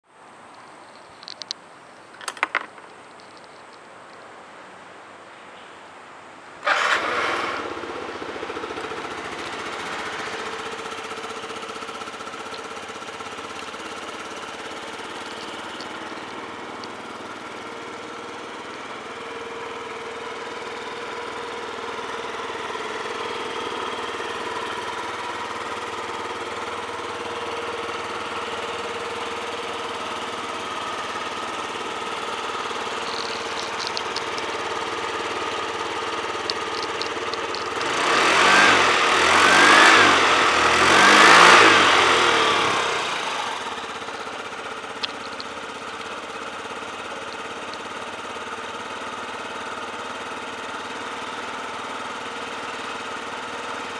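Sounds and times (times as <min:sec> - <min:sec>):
scooter engine starting and idling: 0:06.6 - 0:53.9.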